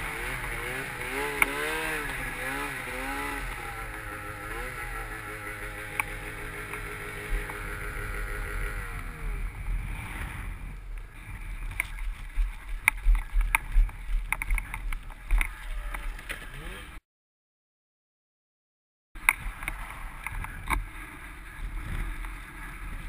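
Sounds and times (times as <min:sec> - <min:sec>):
snowmobile engine running: 0:00.0 - 0:17.0, 0:19.4 - 0:23.0
wind rumbling on microphone: 0:00.0 - 0:17.0, 0:19.2 - 0:23.0.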